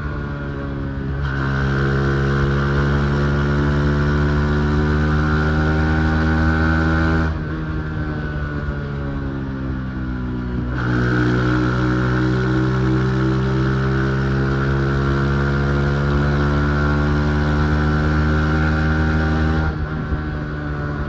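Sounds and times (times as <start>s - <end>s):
motorcycle engine under throttle: 0.0s - 21.0s.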